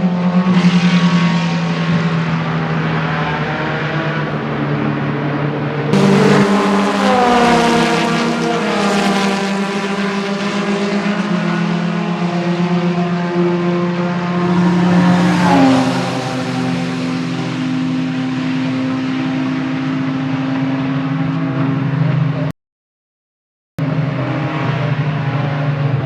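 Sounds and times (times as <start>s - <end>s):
race car engines at speed: 0.0s - 22.5s, 23.8s - 26.0s
race car passing by: 0.1s - 22.5s.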